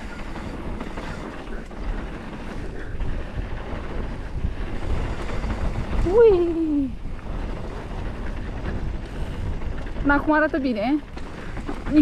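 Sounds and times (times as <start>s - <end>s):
bike clicks and rattles: 0.0s - 12.0s
low rumble of bike tyres: 0.0s - 12.0s
wind buffeting microphone: 0.0s - 12.0s.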